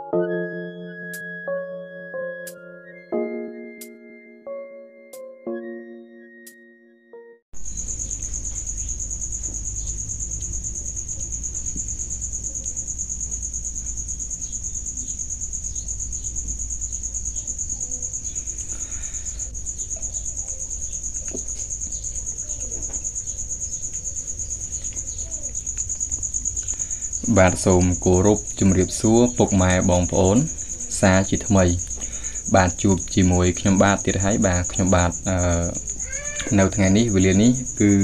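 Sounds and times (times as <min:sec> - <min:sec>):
crickets chirring: 0:00.0 - 0:04.0, 0:07.6 - 0:38.0.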